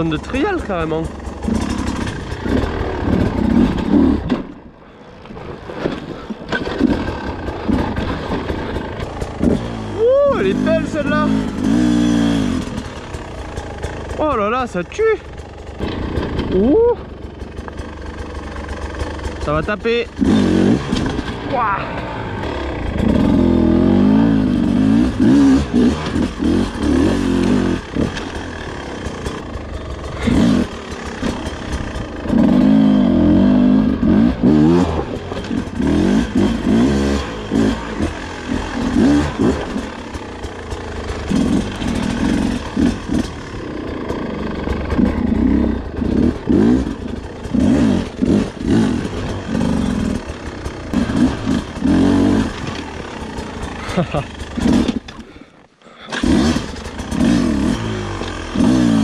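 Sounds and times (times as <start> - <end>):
motorcycle engine revving: 0.0 - 4.8, 5.8 - 59.0.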